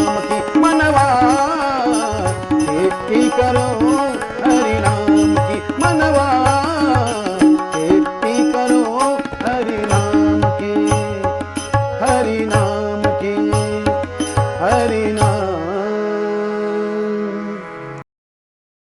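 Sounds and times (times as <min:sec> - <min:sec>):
held pitched chords: 0:00.0 - 0:16.3.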